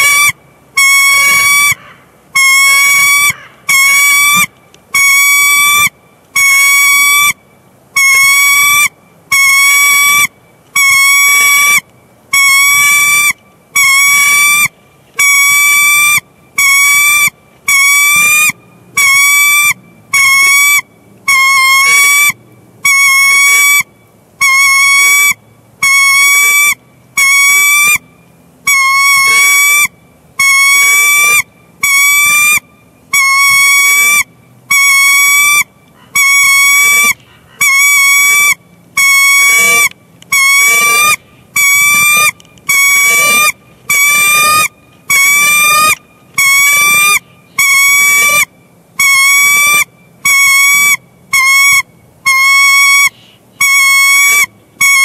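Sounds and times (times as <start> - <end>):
bird calling: 0.0 - 55.0.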